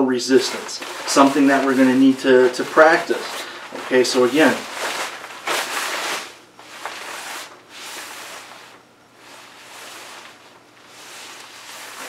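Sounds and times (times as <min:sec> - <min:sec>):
jacket fabric rustling: 0:00.2 - 0:12.0.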